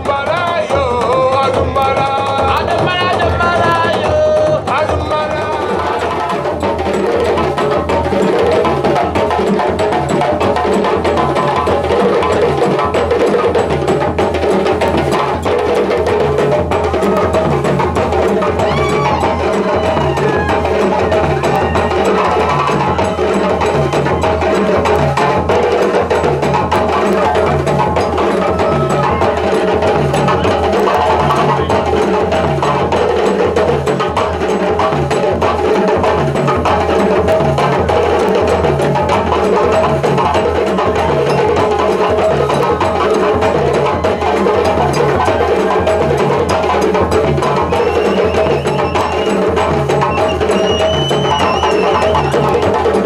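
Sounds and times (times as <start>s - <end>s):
hand drum ensemble playing: 0.0s - 53.0s.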